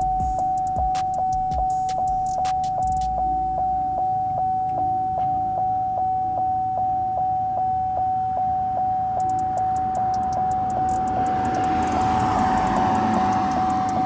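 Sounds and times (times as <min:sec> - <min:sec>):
vehicle warning chime dinging: 0:00.0 - 0:14.0.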